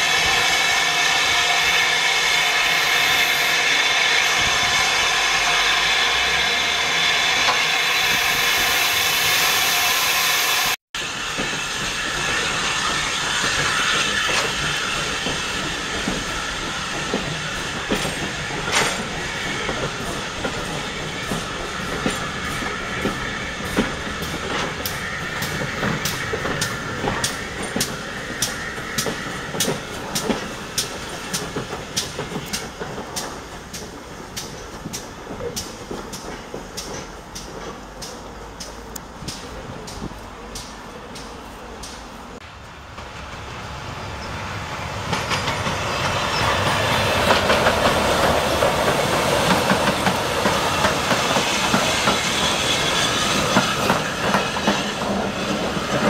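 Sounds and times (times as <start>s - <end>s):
steam hissing from locomotive: 0.0s - 42.4s, 43.5s - 56.0s
train rolling past clicking: 0.0s - 56.0s.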